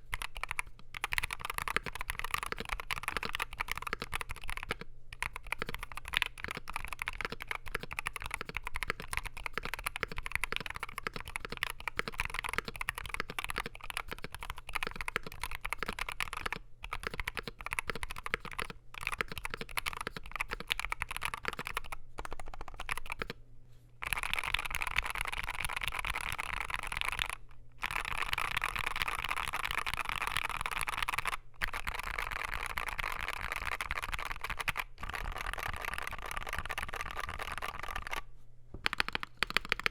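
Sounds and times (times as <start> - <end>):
keyboard typing: 0.0 - 23.4, 24.0 - 39.9.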